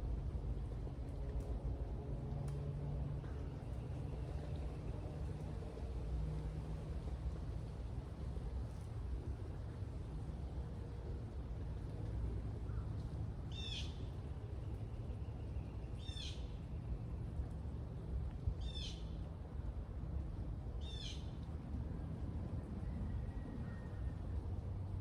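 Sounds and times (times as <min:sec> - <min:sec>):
steady low background rumble: 0:00.0 - 0:25.0.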